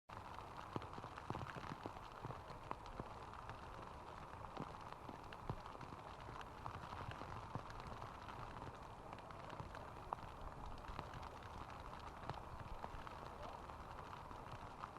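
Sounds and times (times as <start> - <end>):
steady rain falling: 0.1 - 14.9.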